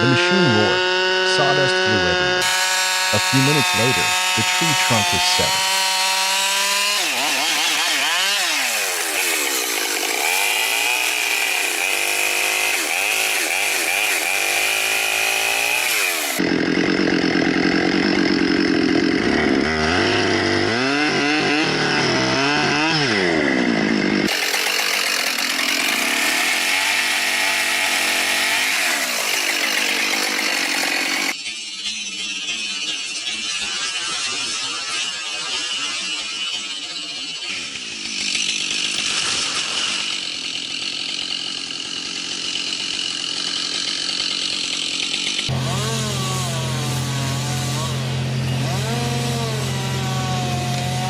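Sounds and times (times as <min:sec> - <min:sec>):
chainsaw cutting wood: 0:00.0 - 0:51.0.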